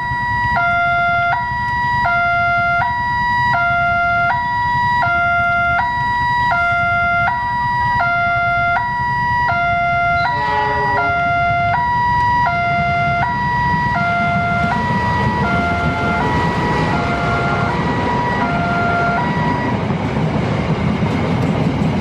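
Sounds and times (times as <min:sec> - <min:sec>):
two-tone level crossing alarm: 0:00.0 - 0:19.8.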